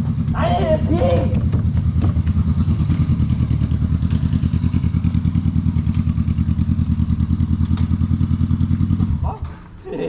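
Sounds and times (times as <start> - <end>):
motorcycle engine idling: 0.0 - 9.7.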